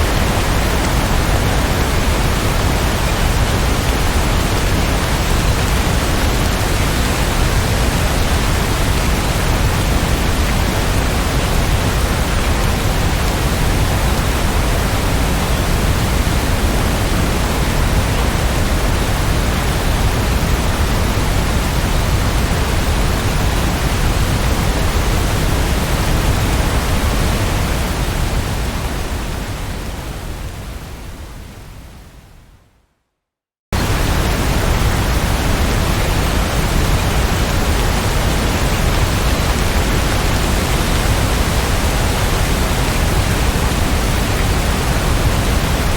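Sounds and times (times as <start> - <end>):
heavy rain hissing: 0.0 - 31.2, 33.8 - 45.9.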